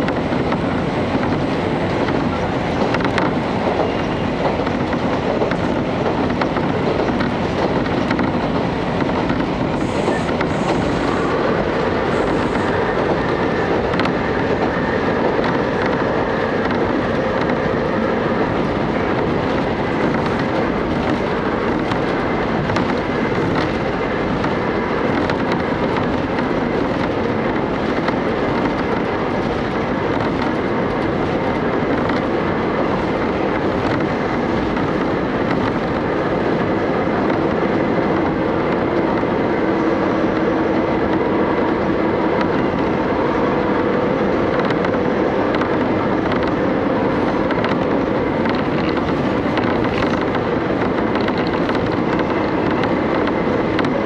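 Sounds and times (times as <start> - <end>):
railcar engine running: 0.0 - 54.0
train wheels on rails: 0.0 - 54.0.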